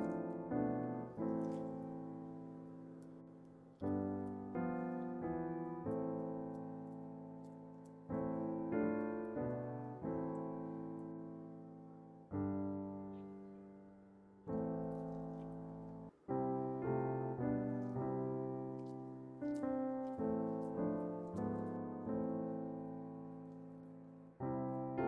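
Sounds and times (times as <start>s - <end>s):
piano chords: 0.0s - 25.0s.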